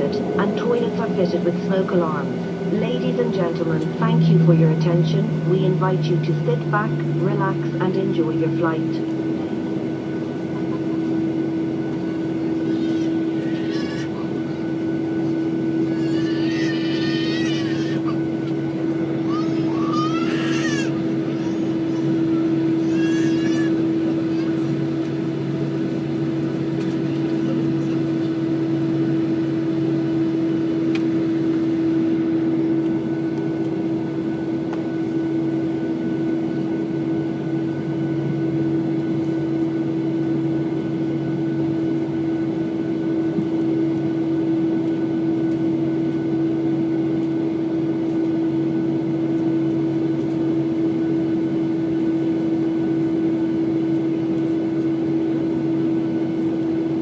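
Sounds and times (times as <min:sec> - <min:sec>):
jet engines and cabin air hum: 0:00.0 - 0:57.0.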